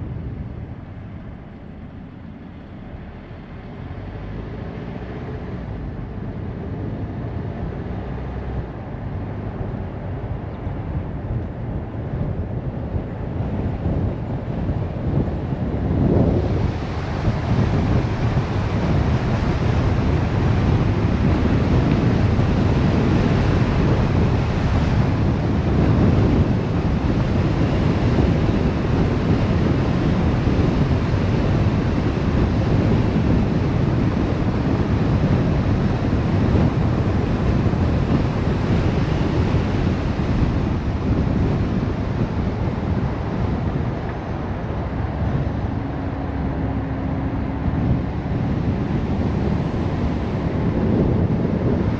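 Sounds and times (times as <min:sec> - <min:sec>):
road and wind noise: 0:00.0 - 0:51.9.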